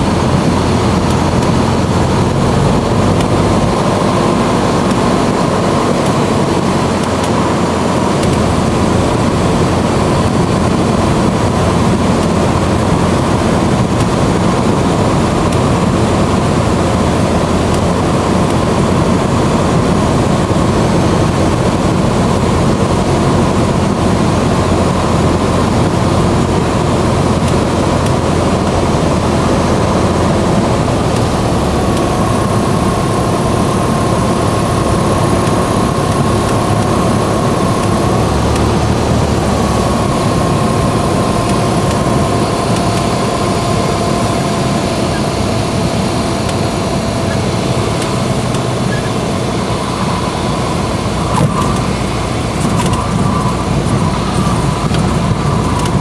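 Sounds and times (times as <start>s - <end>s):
light aircraft engine and propeller: 0.0s - 56.0s.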